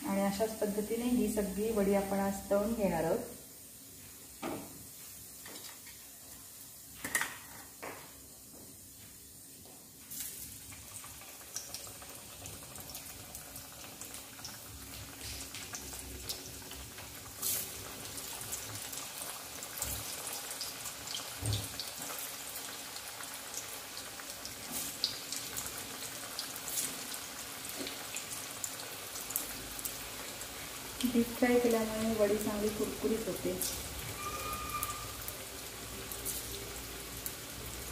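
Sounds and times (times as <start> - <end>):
food deep-frying in oil: 0.0 - 37.9.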